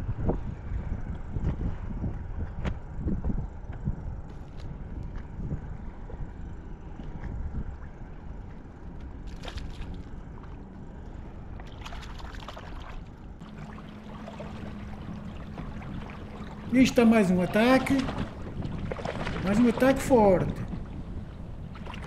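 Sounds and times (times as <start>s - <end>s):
low steady hum: 0.0s - 22.0s
wind on microphone: 0.0s - 22.0s
water lapping against kayak: 0.3s - 22.0s.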